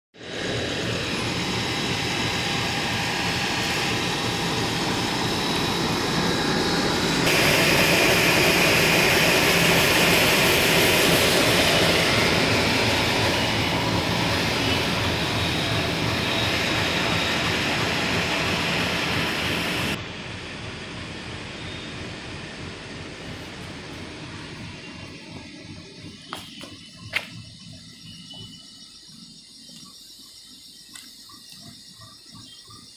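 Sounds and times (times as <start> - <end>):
diesel locomotive engine hum: 0.2 - 32.9
locomotive hiss: 0.2 - 32.9
rolling train wheels rumble: 0.2 - 32.9.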